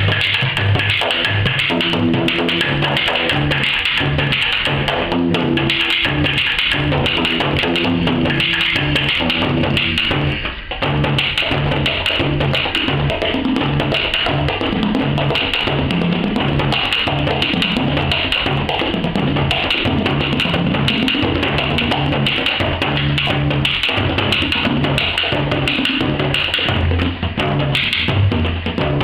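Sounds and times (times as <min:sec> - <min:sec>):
frame drums played fast: 0:00.0 - 0:29.0.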